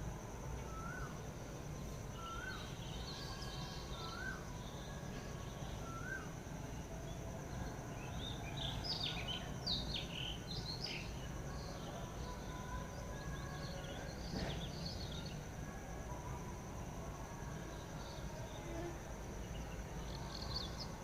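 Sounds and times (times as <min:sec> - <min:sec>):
low outdoor background hum: 0:00.0 - 0:21.0.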